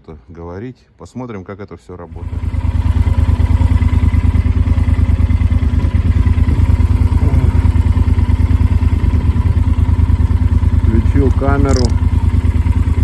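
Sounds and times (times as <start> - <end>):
motorcycle engine running: 2.1 - 13.0.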